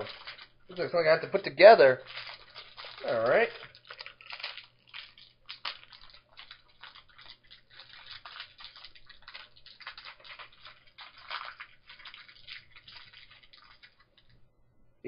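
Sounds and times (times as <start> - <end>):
rustling of handled plastic pieces: 0.0 - 14.4
plastic packaging crinkling: 0.0 - 14.5.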